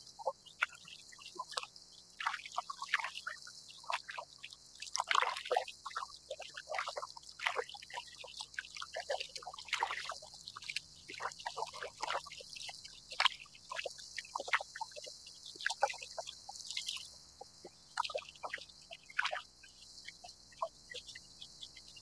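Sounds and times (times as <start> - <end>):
small waves lapping against hull: 0.0 - 22.0.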